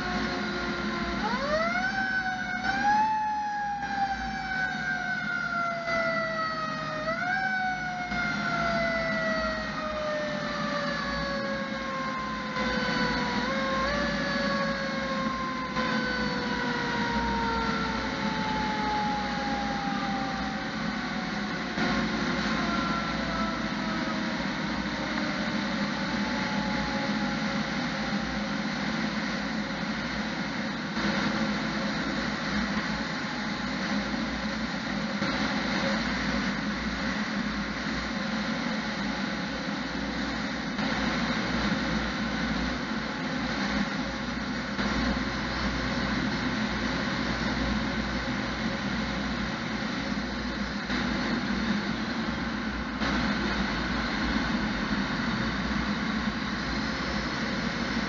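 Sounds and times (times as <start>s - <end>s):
truck engine and road noise: 0.0s - 58.0s.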